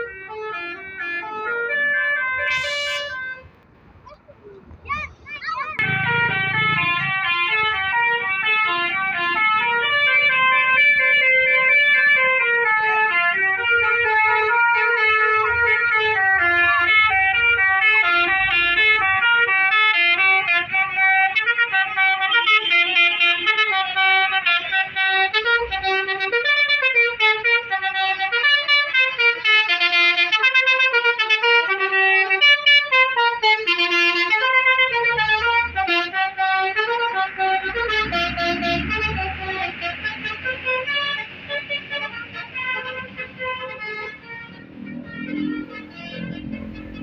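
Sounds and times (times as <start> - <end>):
multi-tone air horns melody: 0.0 - 3.5, 5.8 - 47.0.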